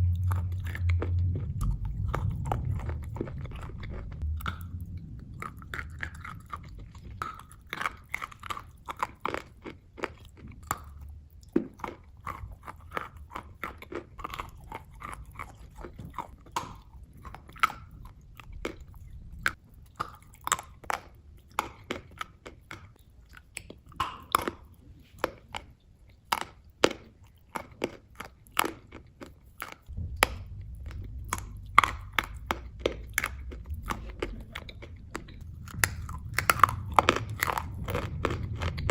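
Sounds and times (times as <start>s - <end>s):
chewing crunchy food: 0.0s - 38.9s
faint low hum: 0.0s - 38.9s.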